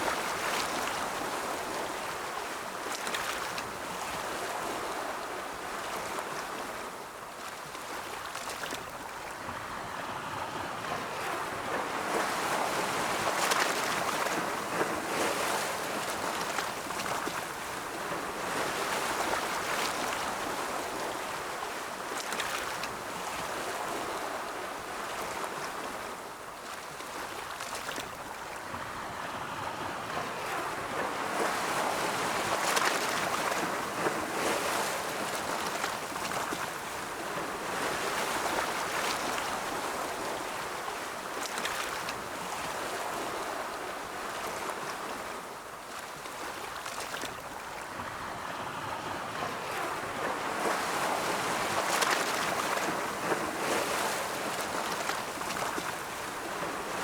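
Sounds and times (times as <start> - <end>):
ocean waves on shore: 0.0 - 57.0.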